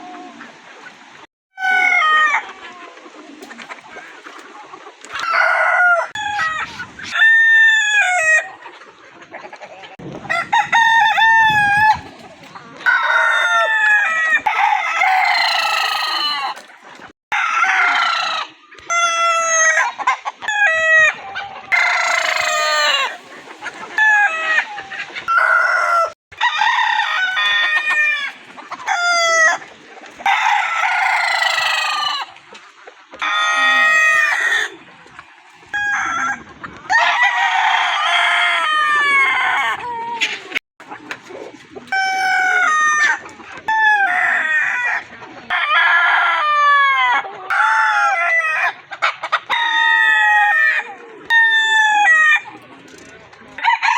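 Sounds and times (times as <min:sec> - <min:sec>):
roosters crowing: 0:01.6 - 0:02.9, 0:05.0 - 0:08.6, 0:10.2 - 0:12.2, 0:12.8 - 0:16.7, 0:17.3 - 0:32.4, 0:33.1 - 0:34.8, 0:35.7 - 0:40.4, 0:41.9 - 0:52.6, 0:53.6 - 0:53.9.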